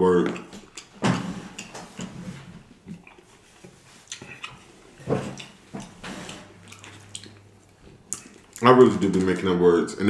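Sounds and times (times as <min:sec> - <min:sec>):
man chewing food: 0:00.2 - 0:08.7.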